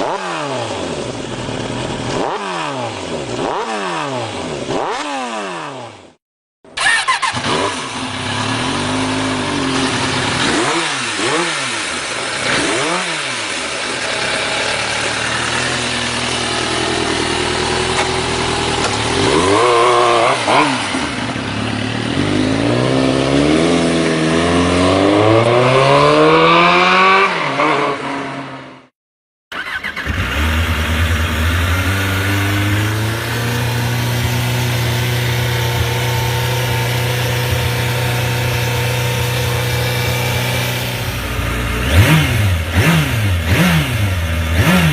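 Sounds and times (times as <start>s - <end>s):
motorcycle accelerating: 0.0s - 28.9s, 29.5s - 44.9s
motorcycle engine revving: 0.0s - 28.9s, 29.5s - 44.9s.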